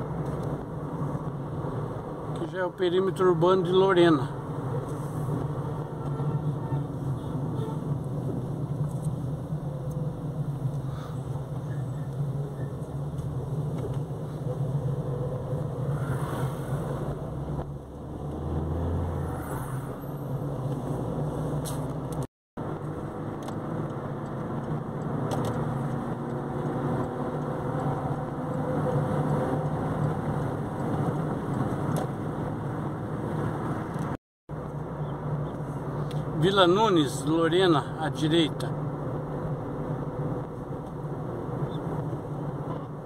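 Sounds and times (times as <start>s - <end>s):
car engine and tyre drone: 3.9s - 36.4s, 38.3s - 43.0s.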